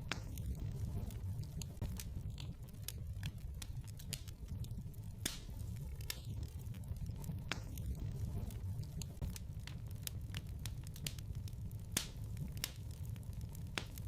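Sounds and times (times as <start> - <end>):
low rumble of flames: 0.0 - 14.0
wood fire pops and snaps: 0.0 - 14.0.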